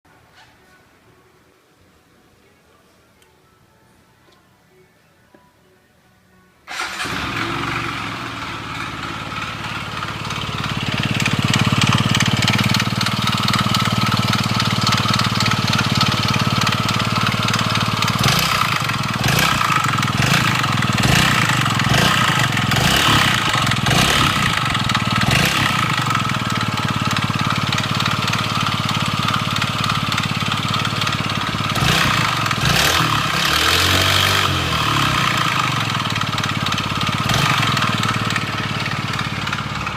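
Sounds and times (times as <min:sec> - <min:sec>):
motorcycle engine running: 0:06.8 - 0:39.9.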